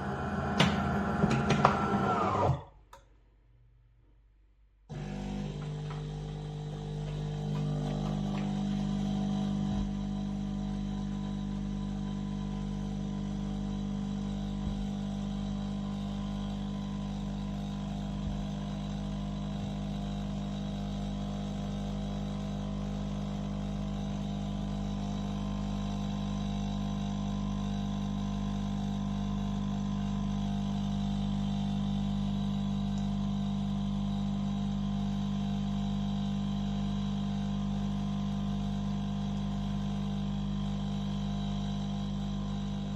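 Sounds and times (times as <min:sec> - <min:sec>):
coffee machine humming: 0:00.0 - 0:02.7, 0:04.9 - 0:42.9.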